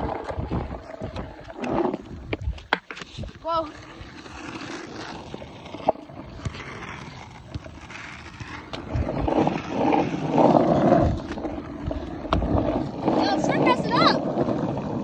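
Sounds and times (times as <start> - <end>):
skateboard wheels on rough asphalt: 0.0 - 15.0.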